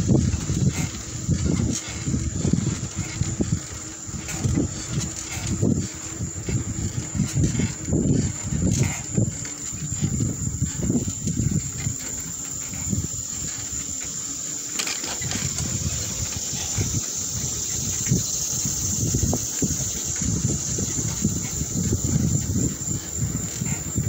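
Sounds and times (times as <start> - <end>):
insects droning: 0.0 - 24.0
wind buffeting microphone: 0.0 - 24.0.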